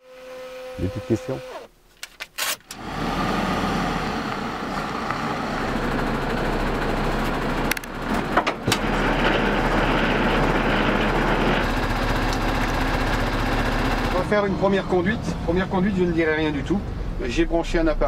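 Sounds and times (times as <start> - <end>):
diesel truck engine running: 2.8 - 18.0.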